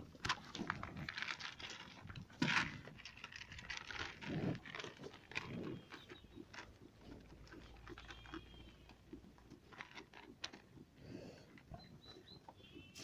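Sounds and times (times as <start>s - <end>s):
animal crunching feed: 0.0s - 13.0s.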